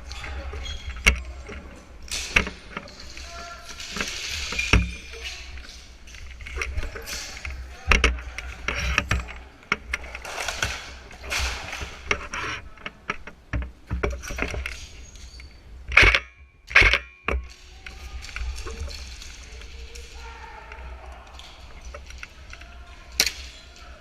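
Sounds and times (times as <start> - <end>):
gear clattering and rustling: 0.0 - 24.0.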